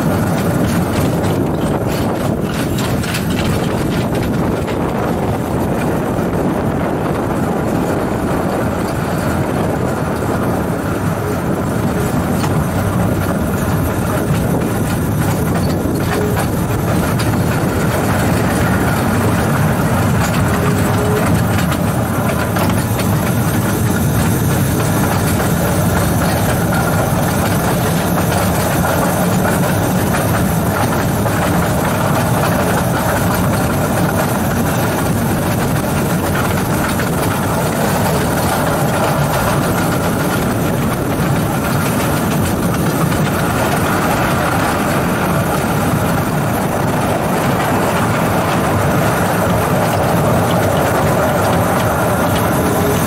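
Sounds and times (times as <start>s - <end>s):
railway car rumbling on track: 0.0s - 53.0s.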